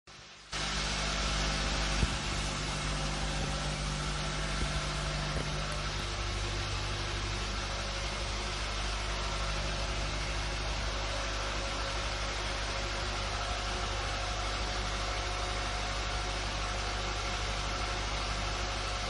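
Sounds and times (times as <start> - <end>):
machine humming with hiss: 0.1 - 19.0.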